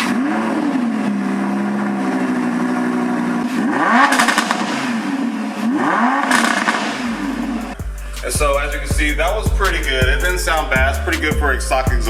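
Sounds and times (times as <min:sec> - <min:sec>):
sports car engine revving and idling: 0:00.0 - 0:12.0.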